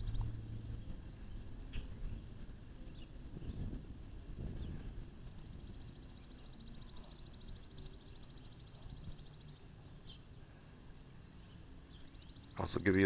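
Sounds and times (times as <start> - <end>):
distant low rumble: 0.0 - 13.0.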